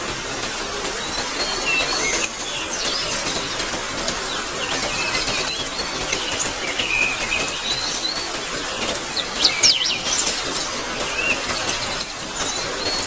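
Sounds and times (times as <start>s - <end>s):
birds chirping: 0.0s - 13.0s
steady rain: 0.0s - 13.0s.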